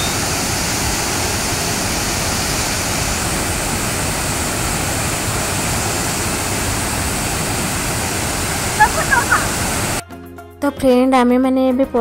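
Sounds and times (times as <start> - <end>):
waterfall crashing onto rocks: 0.0 - 10.0.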